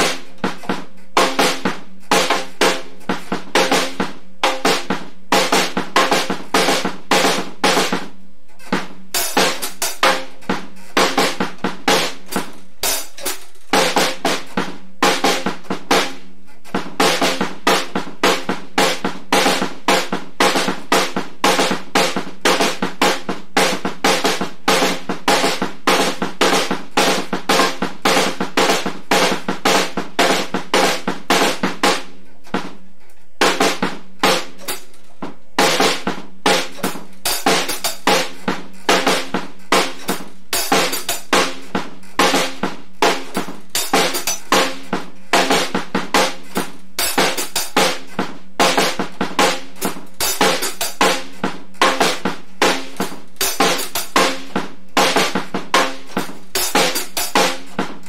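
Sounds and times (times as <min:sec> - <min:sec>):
drum kit beat: 0:00.0 - 0:58.0.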